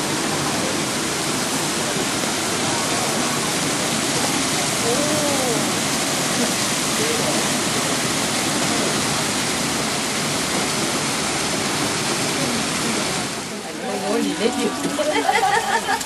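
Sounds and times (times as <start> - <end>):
water pouring over rocks: 0.0 - 16.0.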